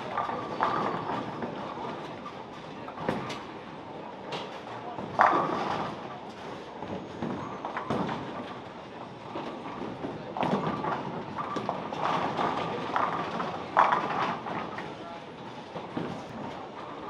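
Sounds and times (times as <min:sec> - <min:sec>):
bowling pins clattering: 0:00.0 - 0:02.2, 0:04.3 - 0:17.0
bowling balls rumbling down lanes: 0:00.0 - 0:17.0.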